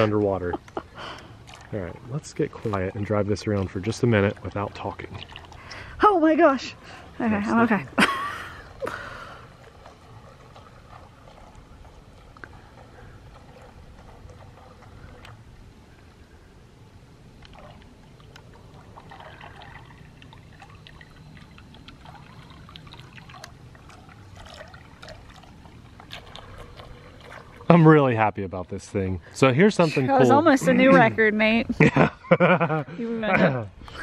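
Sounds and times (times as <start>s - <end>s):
water wash: 0.0s - 15.9s, 17.3s - 29.6s.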